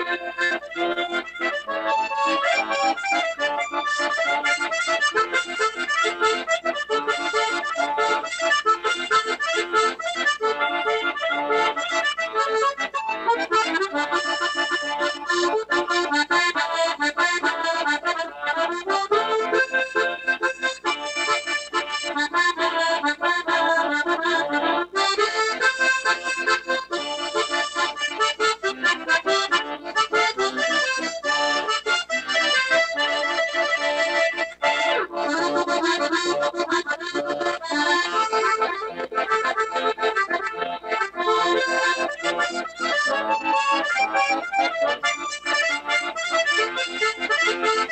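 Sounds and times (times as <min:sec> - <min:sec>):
accordion playing: 0:00.0 - 0:47.9.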